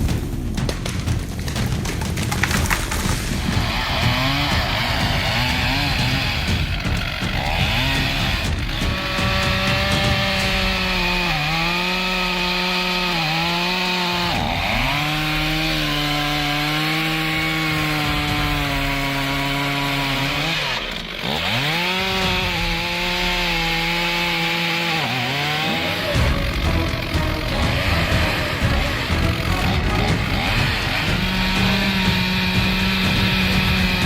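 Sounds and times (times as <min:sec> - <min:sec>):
chainsaw cutting wood: 0:00.3 - 0:34.0.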